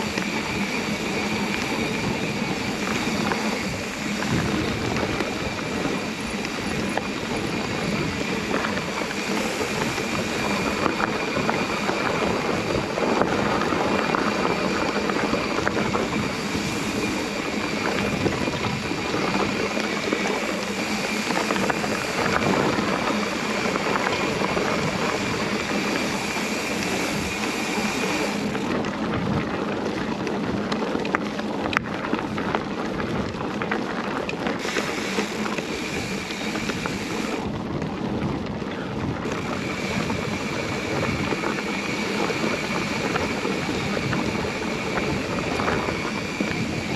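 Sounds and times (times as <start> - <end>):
bike knocking and rattling: 0.0 - 46.9
bike tyres rolling on gravel: 0.0 - 46.9
wind on microphone: 0.0 - 46.9.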